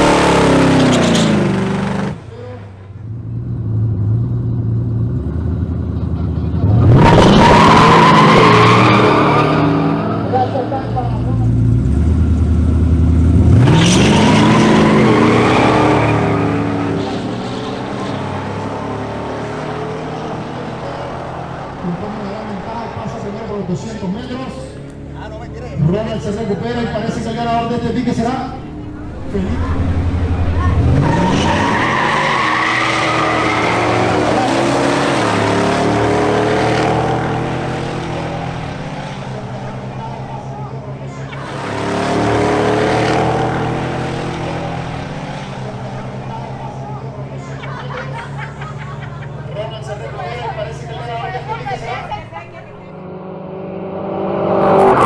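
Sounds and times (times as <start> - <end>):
drag cars accelerating: 0.0 - 55.0.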